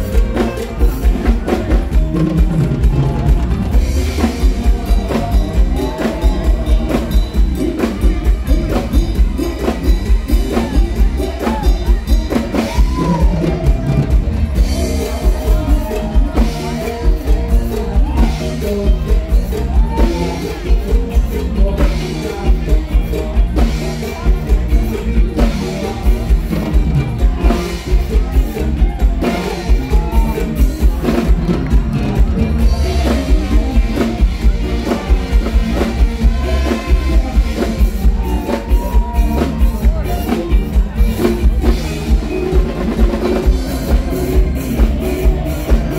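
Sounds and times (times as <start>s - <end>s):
drum kit beat: 0.0s - 45.9s
live band playing: 0.0s - 45.9s
man singing: 0.0s - 45.9s.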